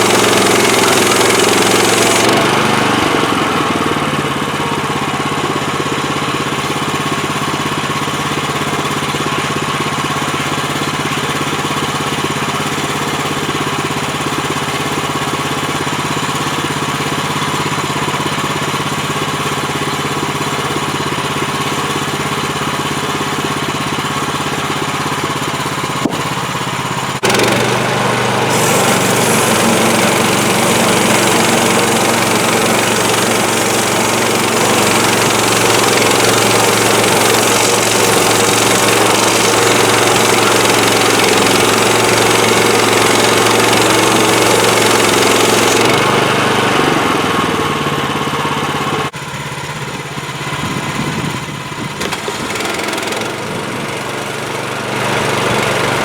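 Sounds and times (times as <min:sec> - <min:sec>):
saw blade cutting log: 0:00.0 - 0:17.7, 0:24.1 - 0:47.6, 0:52.0 - 0:56.0
gas engine running: 0:00.0 - 0:56.0.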